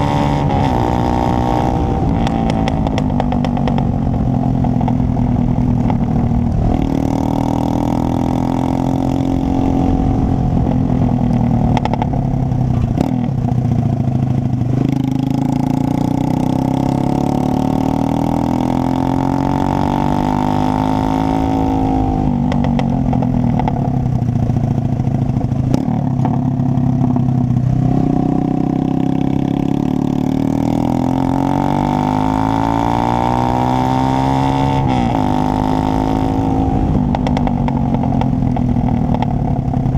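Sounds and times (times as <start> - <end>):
loud raspy motorcycle engine revving: 0.0 - 39.9.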